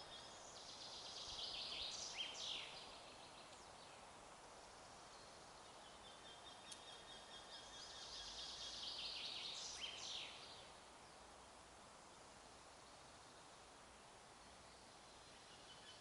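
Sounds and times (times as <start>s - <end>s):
faint songbird singing: 0.0s - 16.0s.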